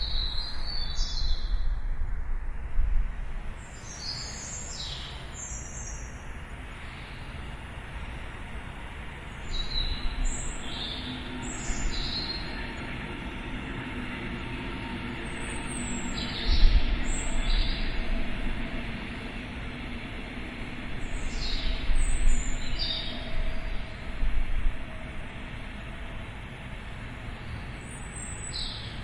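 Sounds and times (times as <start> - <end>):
distant city rumble: 0.0 - 29.0.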